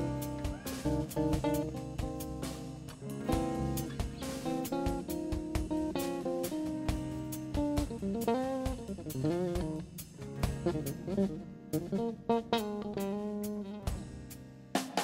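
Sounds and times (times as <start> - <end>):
electric guitar notes: 0.0 - 14.6
bass guitar: 0.0 - 15.0
drums: 0.0 - 15.0.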